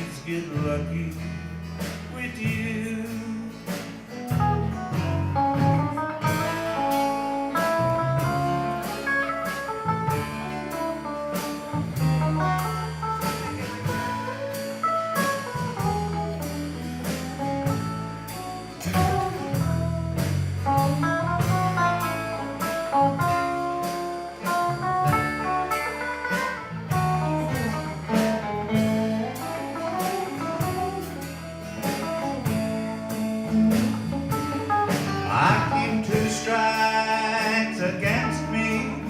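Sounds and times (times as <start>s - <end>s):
country band playing: 0.0s - 39.0s.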